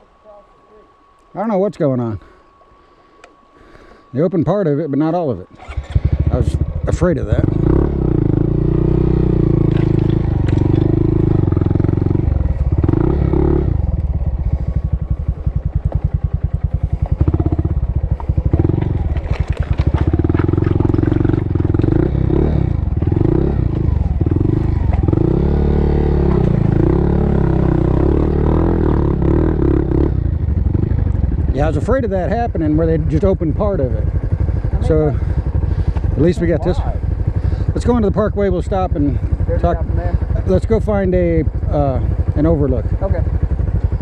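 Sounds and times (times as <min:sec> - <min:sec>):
motorcycle engine revving: 0:05.4 - 0:44.0.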